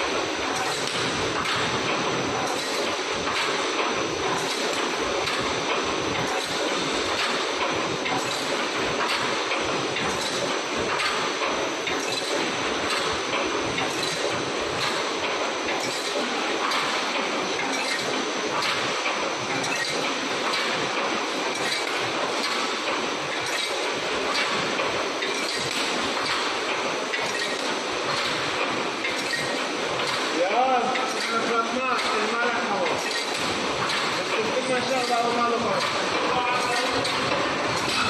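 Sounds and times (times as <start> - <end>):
welding machine metallic clatter: 0.0 - 3.7, 4.3 - 24.6, 25.2 - 38.0.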